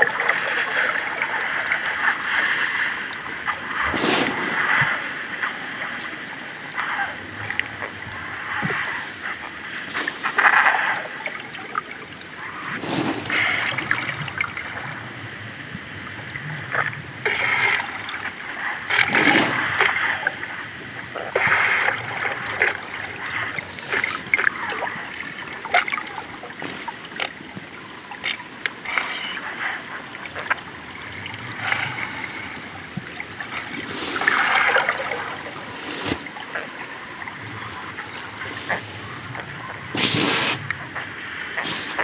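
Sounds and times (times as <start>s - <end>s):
water splashing and trickling: 0.0s - 42.0s.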